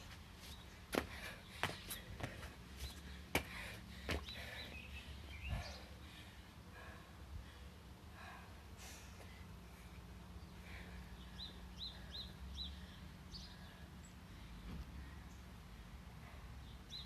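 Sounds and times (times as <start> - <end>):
steady low hum: 0.0 - 17.0
person breathing heavily: 0.9 - 16.6.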